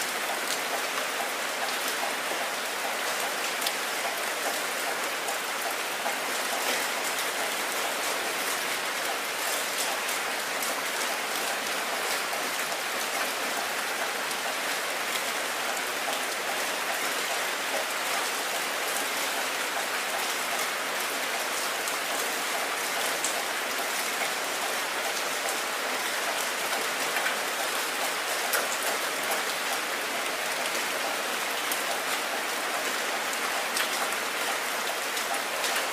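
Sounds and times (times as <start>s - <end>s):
heavy rain on wet surface: 0.0s - 35.9s.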